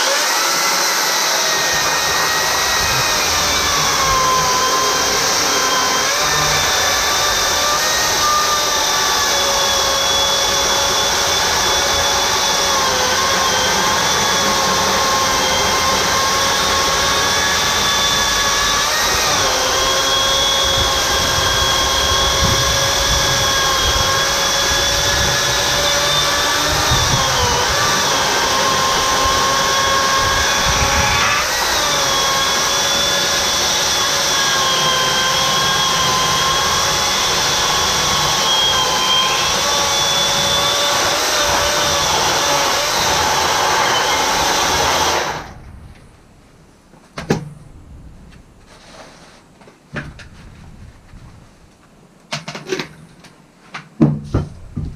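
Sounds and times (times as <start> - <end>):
electric chainsaw motor whine: 0.0 - 45.6.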